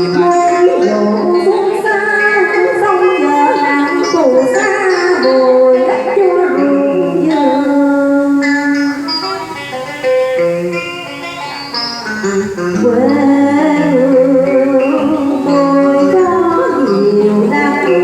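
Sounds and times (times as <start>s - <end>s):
plucked string instruments melody: 0.0s - 18.0s.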